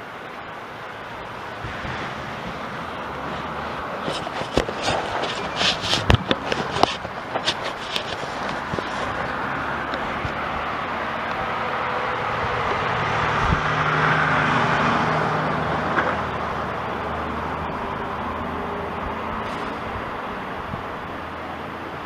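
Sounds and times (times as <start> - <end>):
car passing by: 0.0 - 6.9, 8.2 - 22.0.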